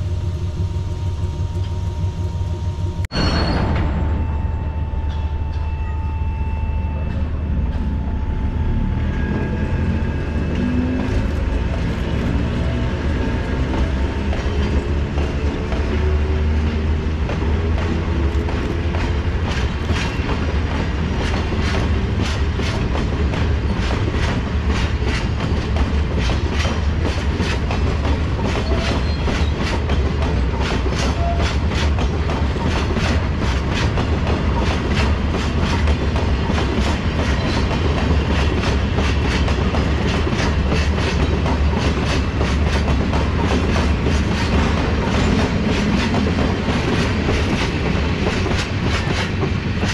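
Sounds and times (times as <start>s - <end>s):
locomotive rumble and whine: 0.0s - 49.9s
train wheels clickety-clack: 9.0s - 49.9s.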